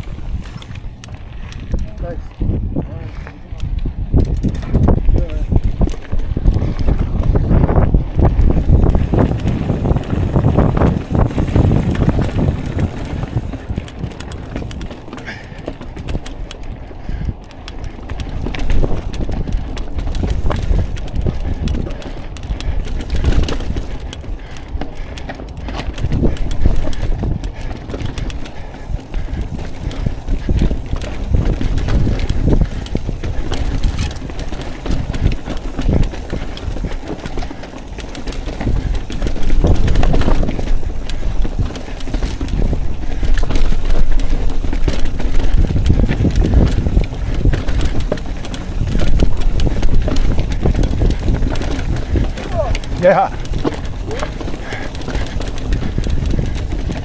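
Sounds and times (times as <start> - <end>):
bike tyre rumble: 0.0 - 57.0
wheels knocking on rocks: 0.0 - 57.0.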